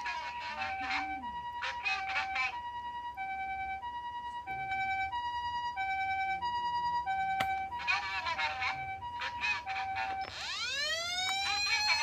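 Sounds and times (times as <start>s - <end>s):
hi-lo ambulance siren: 0.0s - 12.0s.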